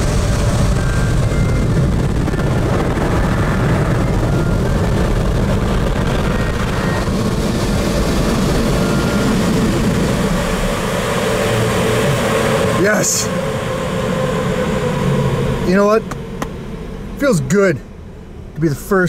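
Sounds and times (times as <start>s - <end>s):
air-dryer blowers rushing: 0.0s - 17.8s.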